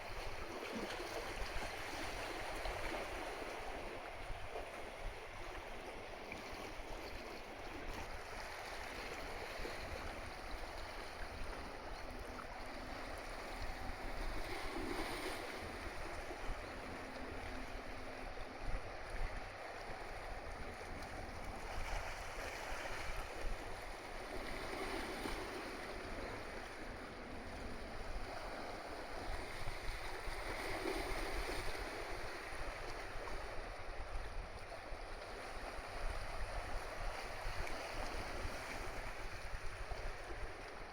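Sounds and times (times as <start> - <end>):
wind and water rushing: 0.0 - 40.9.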